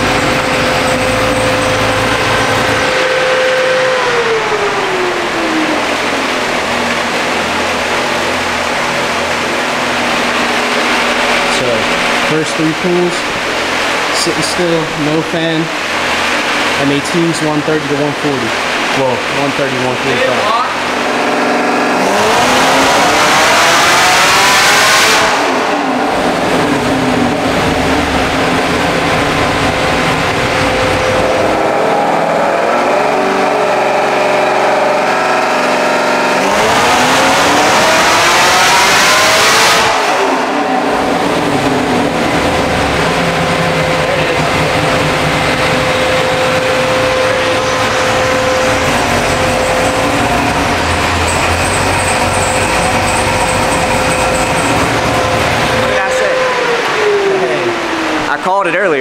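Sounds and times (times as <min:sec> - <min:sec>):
car engine revving on dynamometer: 0:00.0 - 0:59.0.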